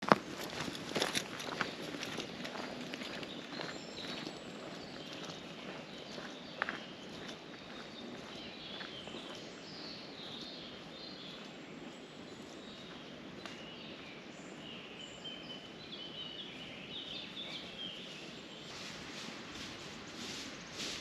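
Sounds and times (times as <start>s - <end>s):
steady outdoor hiss: 0.1s - 21.0s
birds chirping: 0.3s - 21.0s.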